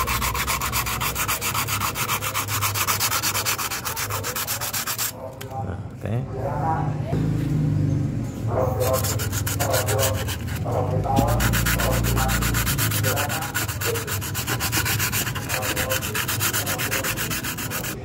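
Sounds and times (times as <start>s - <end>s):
sandpaper rubbing on metal: 0.0s - 5.2s, 8.8s - 18.0s.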